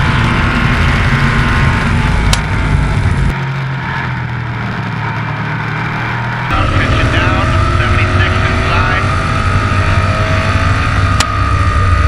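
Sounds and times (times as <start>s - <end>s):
race car engine running hard: 0.0s - 12.0s.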